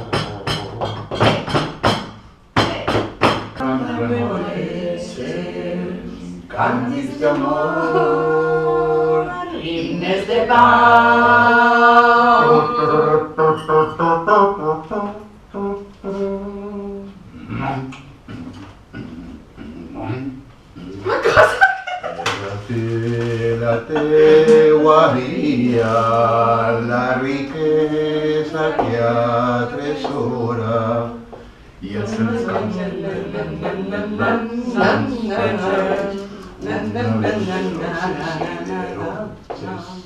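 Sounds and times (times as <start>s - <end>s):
person singing unaccompanied: 3.6s - 19.9s, 22.4s - 40.0s.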